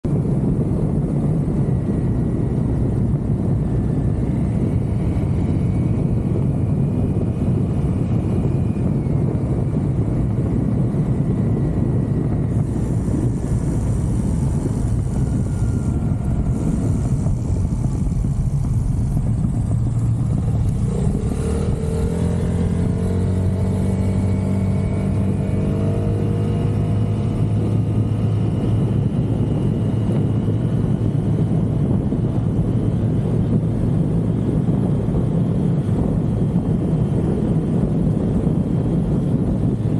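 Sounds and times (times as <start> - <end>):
motorcycle engine hum: 0.0 - 39.9
wind rushing across microphone: 0.0 - 39.9.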